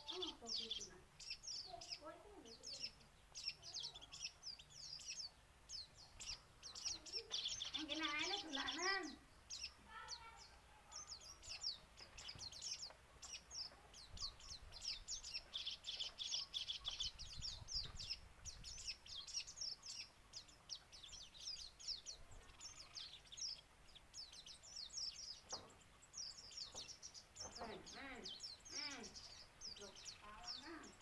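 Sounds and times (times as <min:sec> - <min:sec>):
songbird singing fast sharp notes: 0:00.0 - 0:31.0.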